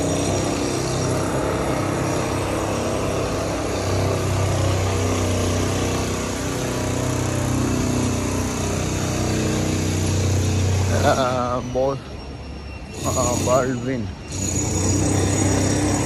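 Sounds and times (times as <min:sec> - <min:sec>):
vehicles passing: 0:00.0 - 0:16.0.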